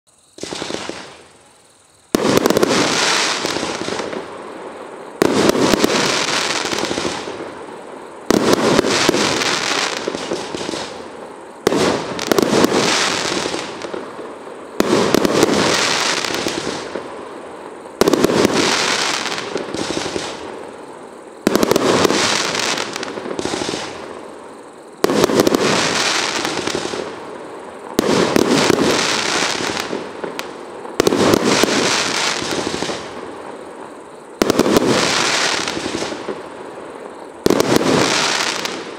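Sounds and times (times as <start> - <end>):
firework crackling: 0.3 - 1.5, 2.1 - 33.8, 34.4 - 38.9.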